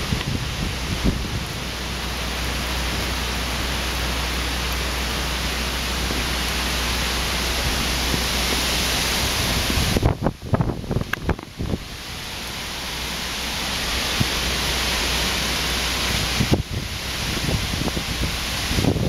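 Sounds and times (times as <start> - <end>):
wind and heavy rain hissing: 0.0 - 19.0.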